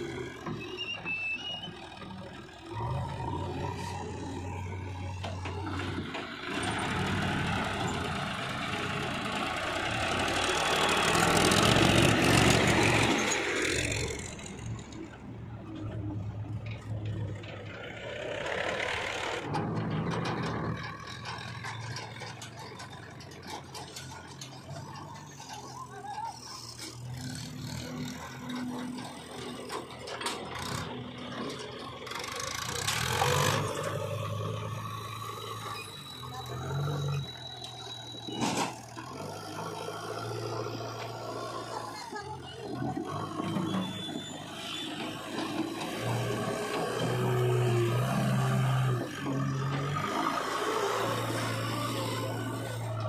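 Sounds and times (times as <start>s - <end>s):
diesel engines running: 0.0s - 53.0s
loader bucket scraping and clanking: 0.0s - 53.0s.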